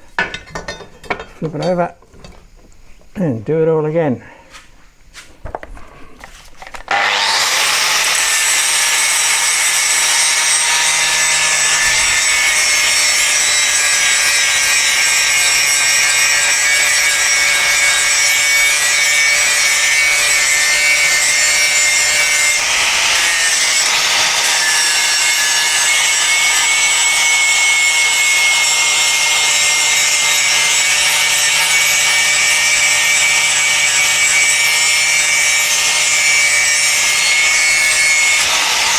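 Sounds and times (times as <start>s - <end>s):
power grinder grinding steel: 6.6s - 38.9s.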